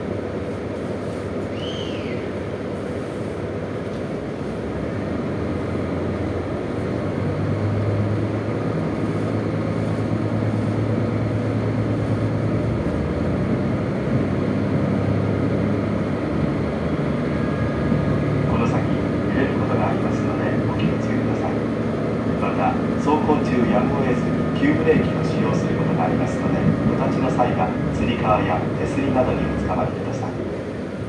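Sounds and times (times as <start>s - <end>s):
diesel railcar engine drone: 0.0s - 31.0s
train running noise: 0.0s - 31.0s.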